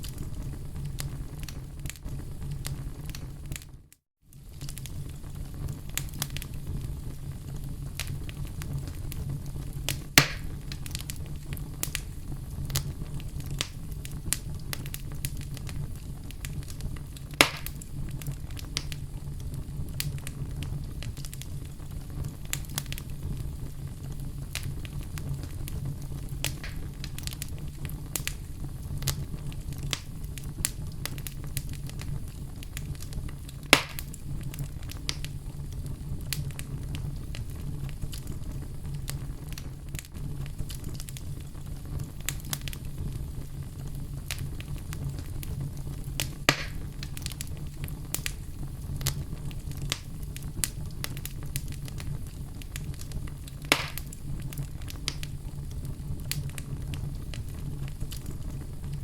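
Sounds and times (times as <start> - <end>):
campfire crackling: 0.0 - 59.0
fire pops: 0.0 - 59.0.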